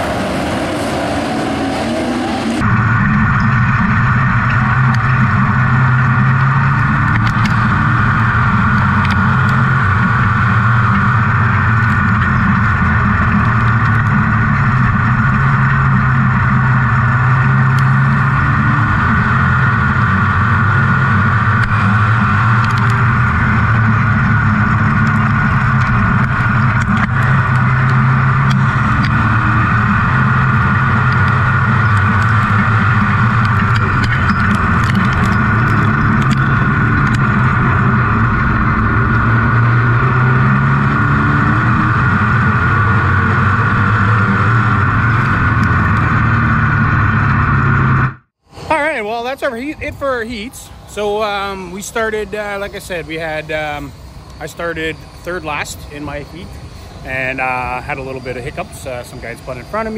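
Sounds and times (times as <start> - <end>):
truck engine racing: 0.0 - 59.9.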